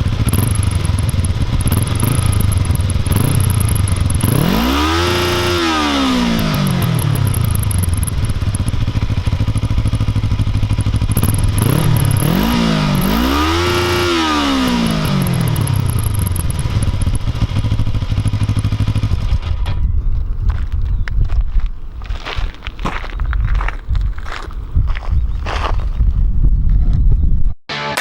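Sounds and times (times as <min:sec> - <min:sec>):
motorcycle engine idling and revving: 0:00.0 - 0:26.6.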